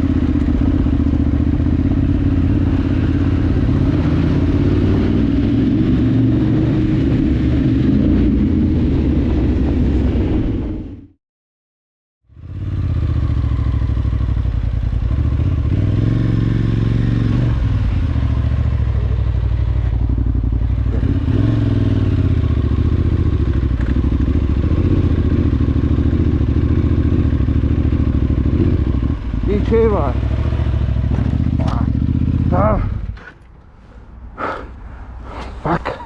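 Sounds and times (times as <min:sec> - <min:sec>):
motorcycle engine running: 0:00.0 - 0:11.1, 0:12.3 - 0:33.4.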